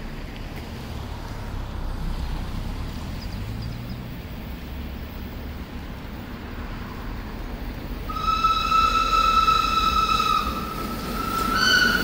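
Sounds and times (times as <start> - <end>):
distant electric train running: 0.0 - 12.0.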